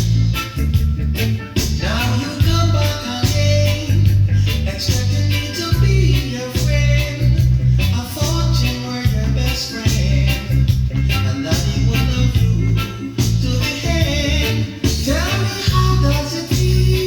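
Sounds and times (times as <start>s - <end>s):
reggae music: 0.0s - 17.0s
person singing: 1.7s - 17.0s.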